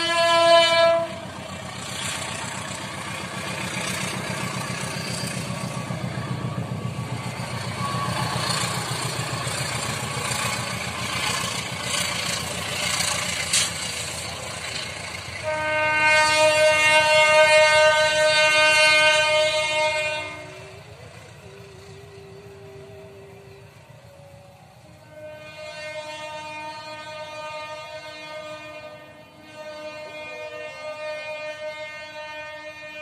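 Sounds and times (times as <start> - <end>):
passing train rumble: 0.0 - 33.0
train horn blast: 0.0 - 33.0.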